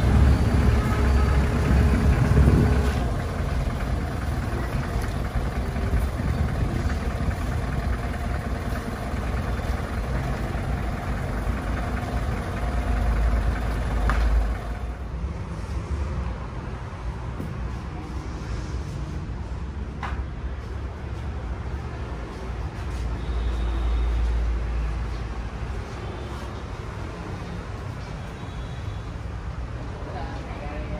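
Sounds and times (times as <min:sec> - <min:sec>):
diesel engine rumbling: 0:00.0 - 0:28.2.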